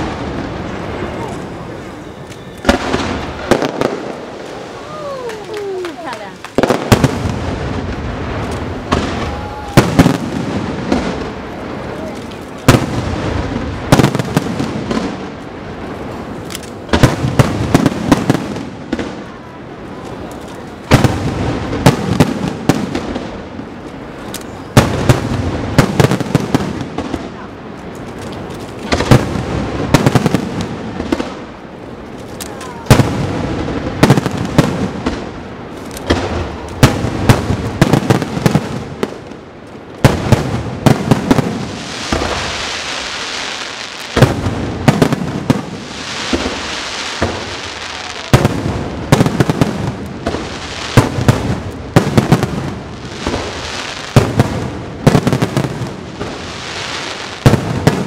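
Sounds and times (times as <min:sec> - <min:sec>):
crackling hiss of fireworks stars: 0:00.0 - 0:58.0.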